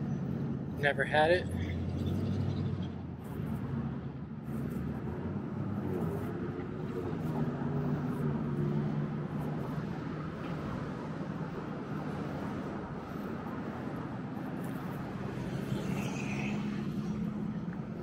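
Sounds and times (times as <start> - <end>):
passing traffic: 0.0 - 18.0
vehicle engine hum: 0.0 - 18.0.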